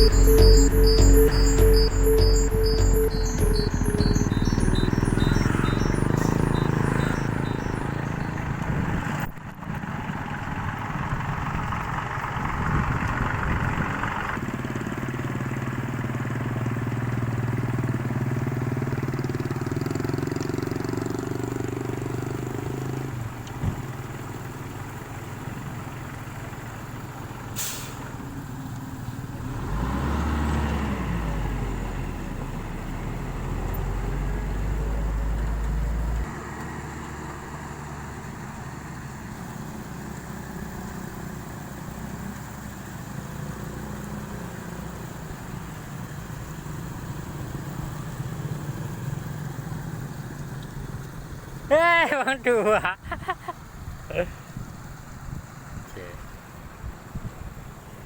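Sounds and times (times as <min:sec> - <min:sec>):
heavy truck engines running: 0:00.0 - 0:58.0.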